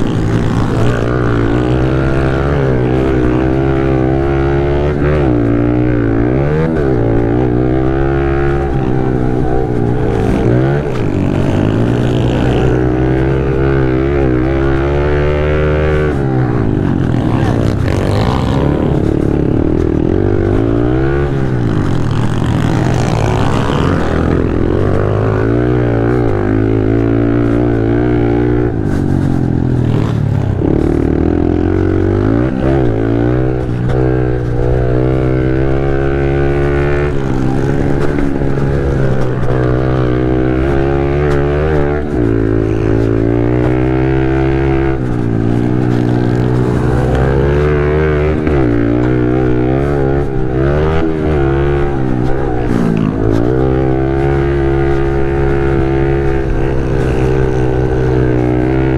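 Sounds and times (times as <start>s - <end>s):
motorbike engine revving hard: 0.0s - 58.9s.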